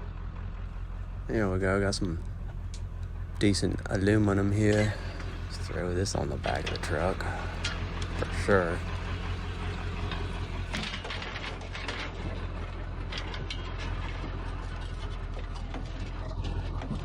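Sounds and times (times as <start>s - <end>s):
steady low hum: 0.0s - 17.0s
scrap metal clicks and rattles: 2.0s - 17.0s.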